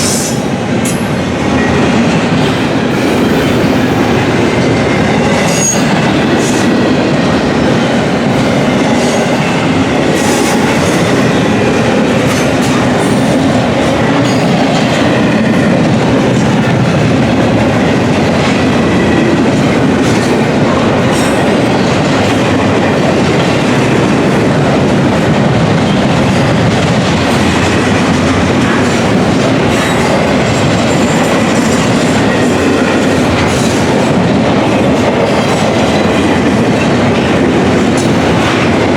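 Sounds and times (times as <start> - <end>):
train wheels rushing on rails: 0.0 - 38.9.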